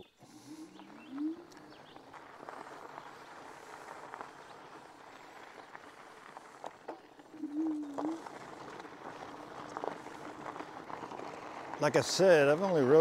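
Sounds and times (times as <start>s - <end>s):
e-bike motor hum: 0.0s - 13.0s
tires crunching on gravel: 0.2s - 13.0s.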